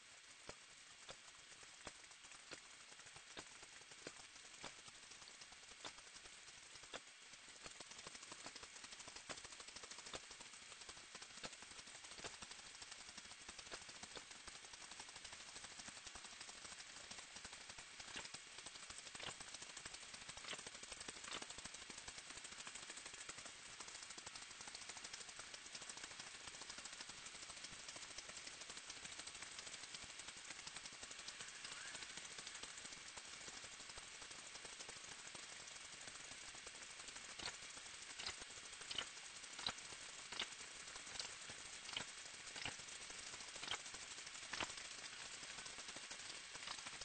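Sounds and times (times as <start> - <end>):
faint crackling hiss: 0.0 - 47.0.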